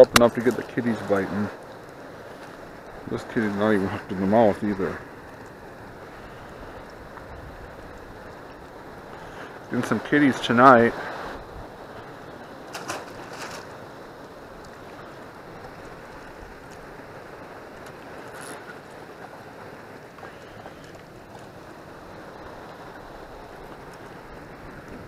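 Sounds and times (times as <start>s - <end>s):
river water: 0.0s - 25.0s
wind: 0.0s - 25.0s.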